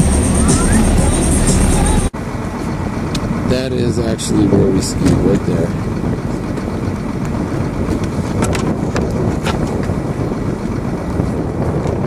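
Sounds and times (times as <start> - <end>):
snowcat engine rumbling: 0.0 - 12.0.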